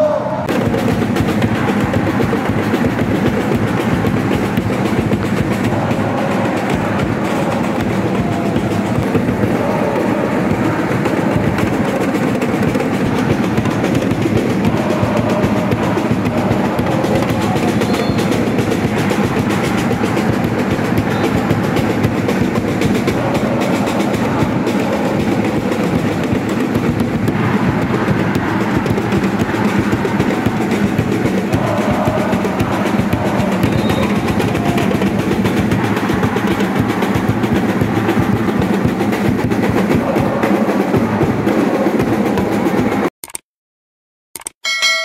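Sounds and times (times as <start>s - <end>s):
crowd chanting and singing: 0.0s - 43.1s
fast steady drumming: 0.1s - 43.1s.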